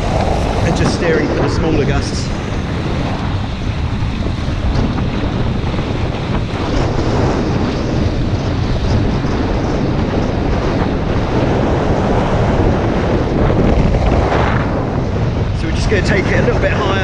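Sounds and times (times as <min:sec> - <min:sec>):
water rushing past hulls: 0:00.0 - 0:17.0
wind buffeting microphone: 0:00.0 - 0:17.0.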